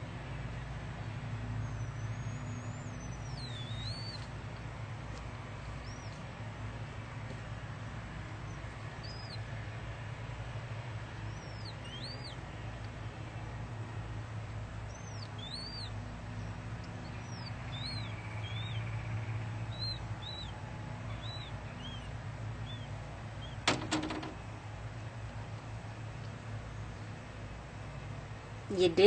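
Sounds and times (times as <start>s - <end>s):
steady low hum: 0.0s - 29.0s
small birds chirping: 0.3s - 29.0s.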